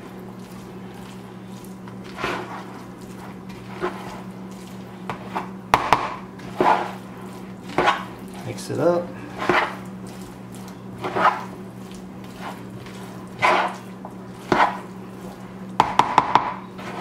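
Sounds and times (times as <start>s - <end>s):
steady low hum: 0.0s - 17.0s
wet scraping stirring strokes: 0.0s - 17.0s.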